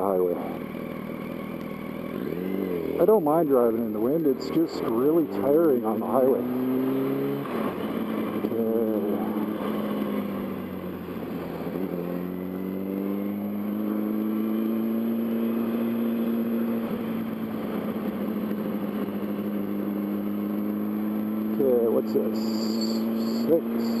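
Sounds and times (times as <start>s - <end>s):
motorcycle engine at low revs: 0.0s - 24.0s.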